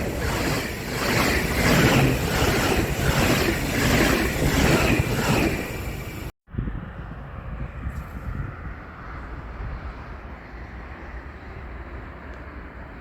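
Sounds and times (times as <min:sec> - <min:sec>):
wind on microphone: 0:00.0 - 0:10.7
train passing on rails: 0:00.0 - 0:13.0.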